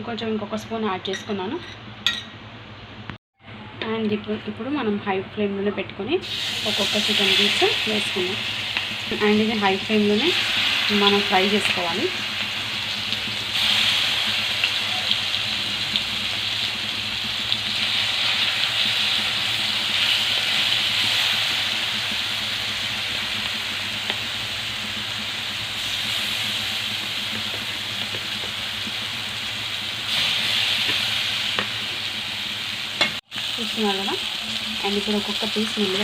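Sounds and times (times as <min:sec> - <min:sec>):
chicken sizzling in hot oil: 0:06.2 - 0:36.0.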